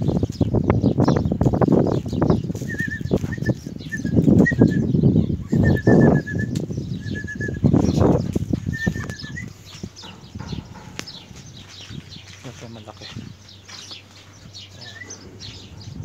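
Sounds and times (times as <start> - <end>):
high chirping trills: 0.0 - 16.0.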